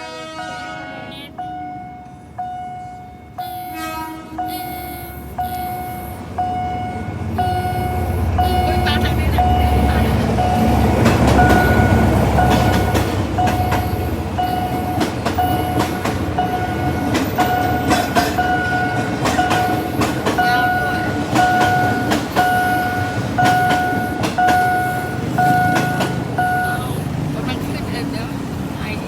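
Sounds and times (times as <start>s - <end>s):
crossing warning signal tones: 0.0s - 29.0s
train wheels clacking: 1.4s - 28.8s.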